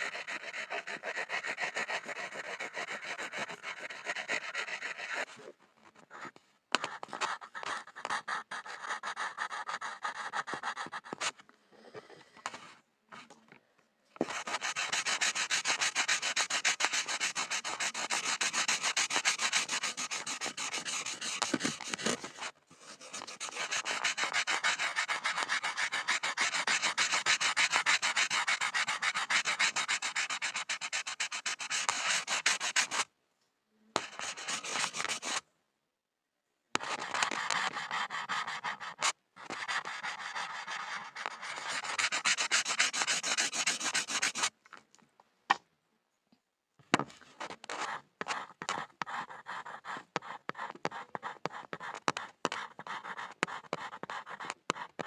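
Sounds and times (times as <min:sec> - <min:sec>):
pencil scribbling on board: 0:00.0 - 0:05.4, 0:06.8 - 0:11.4, 0:14.2 - 0:33.1, 0:34.0 - 0:35.4, 0:36.8 - 0:44.5, 0:47.5 - 0:55.0.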